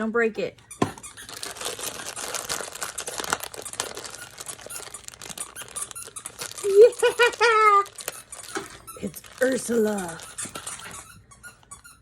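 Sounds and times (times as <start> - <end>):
small clicks and squeaks: 0.5 - 12.0
packaging crinkling and rustling: 0.6 - 11.2.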